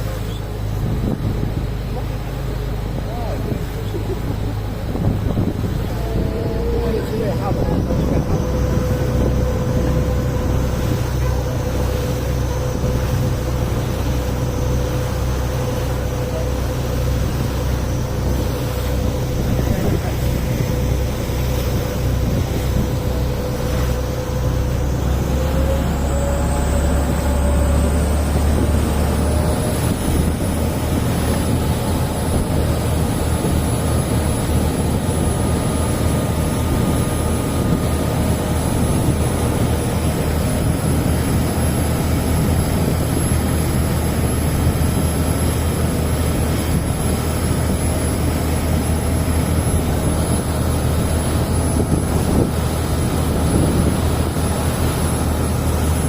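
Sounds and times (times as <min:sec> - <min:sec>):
vehicle engine with whine: 0:00.0 - 0:56.0.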